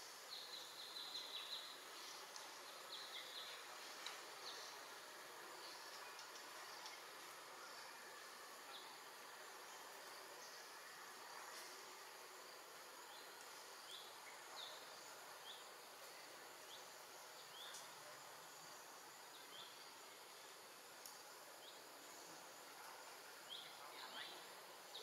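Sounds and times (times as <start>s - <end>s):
steady forest hiss: 0.0s - 25.0s.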